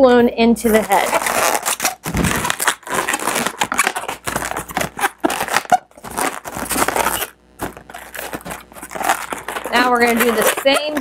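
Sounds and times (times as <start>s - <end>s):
balloons squeaking and rubbing: 0.6s - 11.0s.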